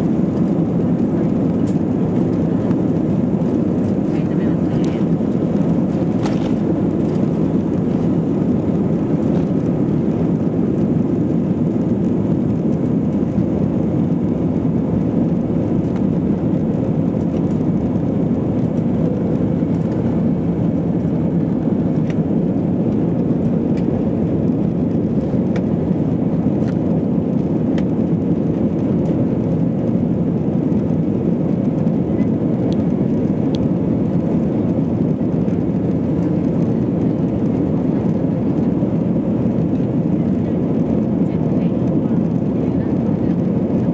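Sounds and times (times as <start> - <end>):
aircraft cabin engine roar: 0.0 - 43.9.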